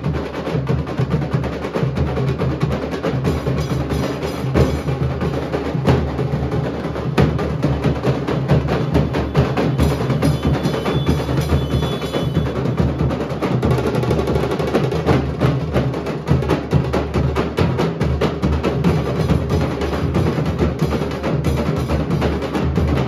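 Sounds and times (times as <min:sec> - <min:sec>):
barrel drums beaten fast: 0:00.0 - 0:23.0.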